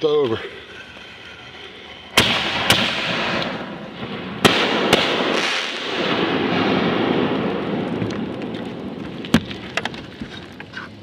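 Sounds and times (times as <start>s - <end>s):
firework shells bursting: 0.8s - 10.1s.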